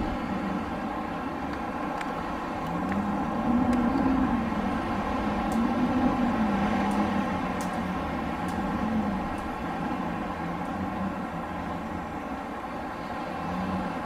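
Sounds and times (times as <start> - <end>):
wind blowing with moaning tone: 0.0 - 14.0.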